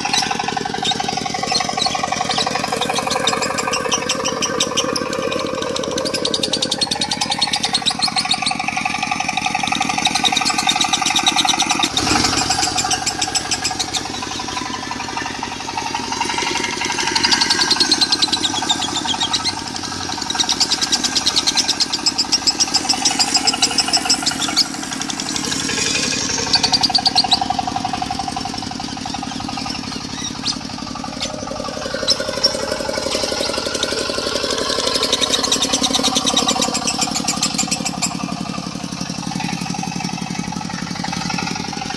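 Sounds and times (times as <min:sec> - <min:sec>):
bird chattering trills: 0:00.0 - 0:41.9
diesel engine running: 0:00.0 - 0:41.9.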